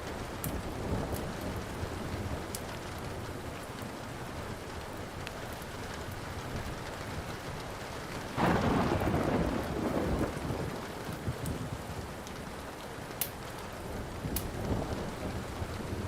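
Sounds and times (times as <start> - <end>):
steady rain: 0.0 - 16.0
wood fire crackles: 0.0 - 16.0
thunder clap and rumble: 0.1 - 5.0, 5.9 - 16.0.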